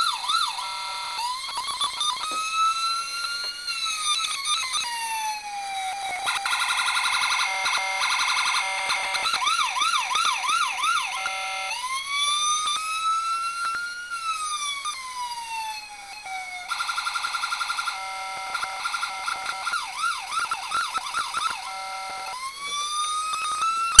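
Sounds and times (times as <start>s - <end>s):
toy police siren: 0.0s - 24.0s.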